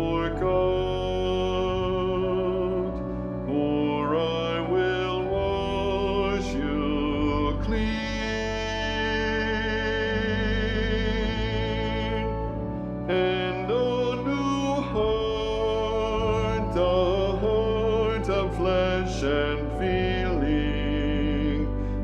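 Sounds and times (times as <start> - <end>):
choir singing with vibrato: 0.0 - 2.8, 3.5 - 12.3, 13.1 - 22.0
musical accompaniment: 0.0 - 22.0.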